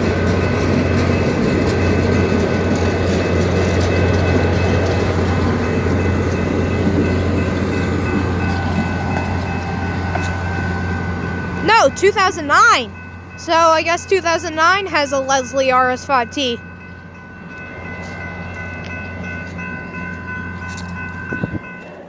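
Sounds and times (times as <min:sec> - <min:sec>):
crossing signal bell ringing: 0:00.0 - 0:22.0
train wheels clattering on rails: 0:00.0 - 0:22.0.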